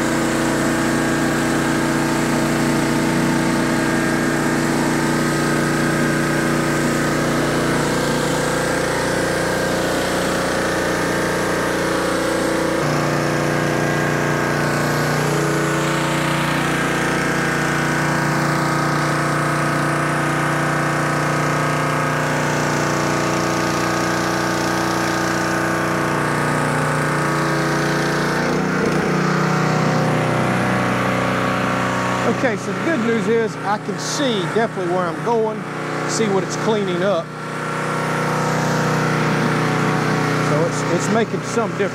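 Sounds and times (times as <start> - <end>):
pressure washer engine running: 0.0 - 41.9.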